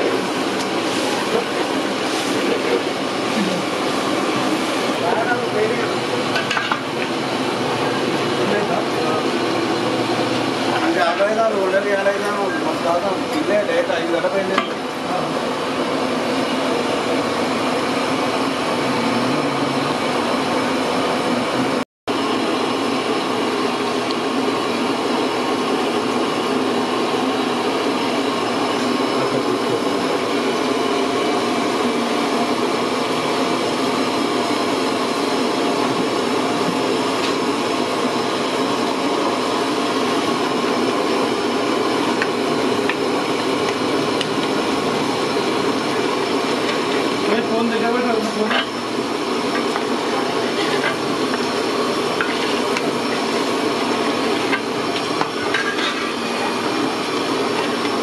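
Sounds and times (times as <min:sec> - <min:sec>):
large pots boiling roar: 0:00.0 - 0:58.0.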